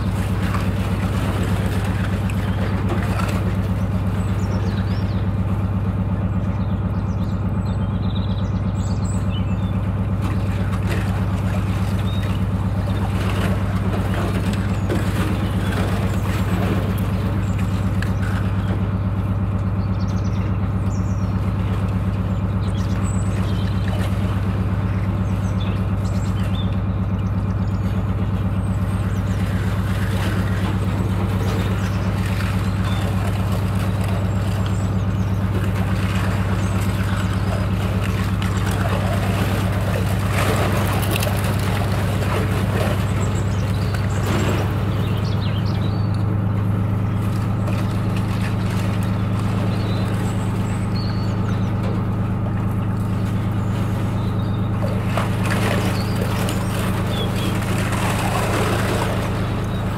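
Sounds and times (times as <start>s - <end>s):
boat diesel engine throbbing: 0.0s - 59.9s.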